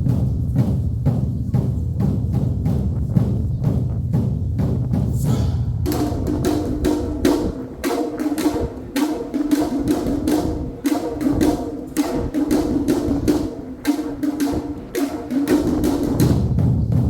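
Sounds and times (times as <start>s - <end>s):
deep drums: 0.0s - 17.0s
sharp percussion strokes: 0.0s - 17.0s.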